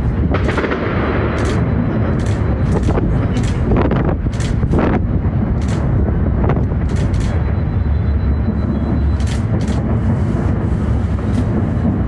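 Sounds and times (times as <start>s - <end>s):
sharp fireworks cracks: 0.0s - 7.6s, 8.3s - 12.0s
fireworks booming: 0.0s - 12.0s.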